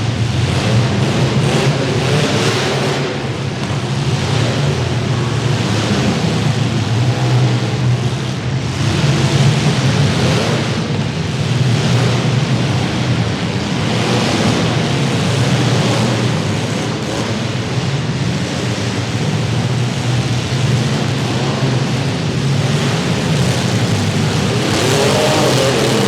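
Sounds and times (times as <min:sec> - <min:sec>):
car engines running hard: 0:00.0 - 0:26.0.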